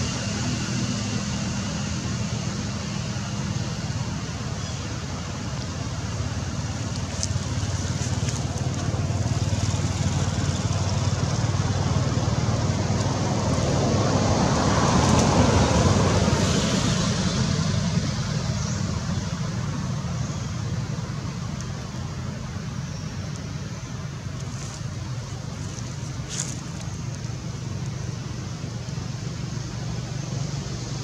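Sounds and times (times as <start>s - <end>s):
passing vehicle engine rumble: 0.0s - 31.0s.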